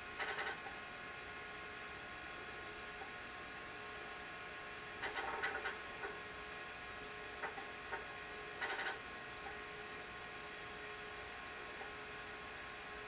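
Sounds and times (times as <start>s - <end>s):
computer electrical hum: 0.0s - 13.0s
hard disk seek chatter: 0.0s - 13.0s.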